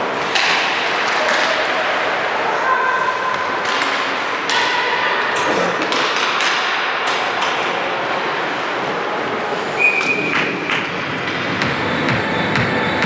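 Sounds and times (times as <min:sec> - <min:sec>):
hockey sticks and puck clacking: 0:00.0 - 0:11.8.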